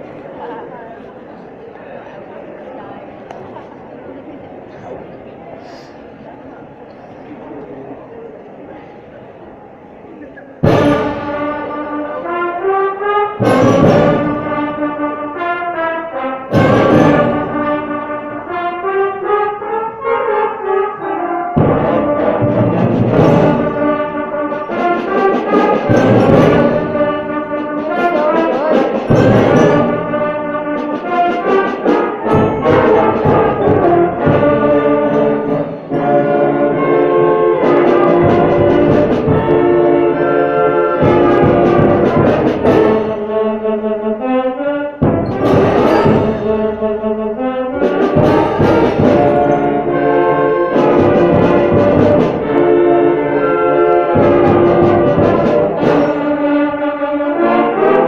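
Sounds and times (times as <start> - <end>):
loud brass-like horn tones: 10.6 - 58.0.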